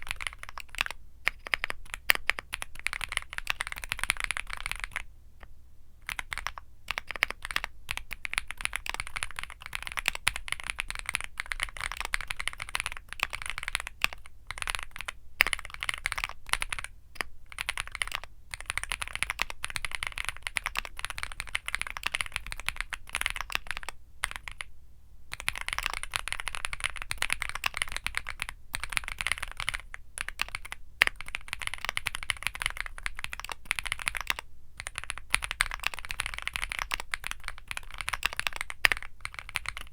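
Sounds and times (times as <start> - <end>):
mechanical keyboard typing: 0.0 - 5.0, 6.0 - 24.7, 25.3 - 39.9.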